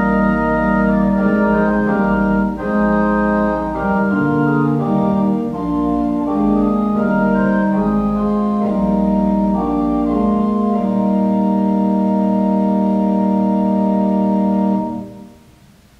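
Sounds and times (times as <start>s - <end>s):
pipe organ chords: 0.0s - 15.6s.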